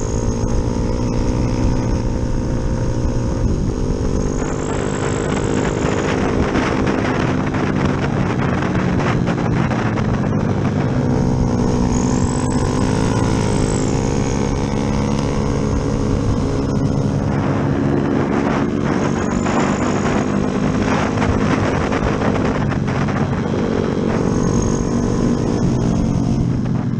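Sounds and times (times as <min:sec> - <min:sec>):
motorcycle engine revving: 0:00.0 - 0:26.9
wind noise on microphone: 0:00.0 - 0:26.9.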